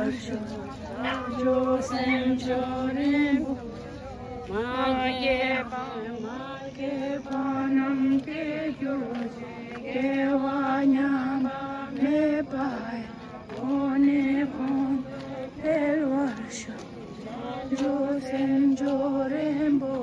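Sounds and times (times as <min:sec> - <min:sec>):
prayer chanted in long notes: 0:00.0 - 0:20.0.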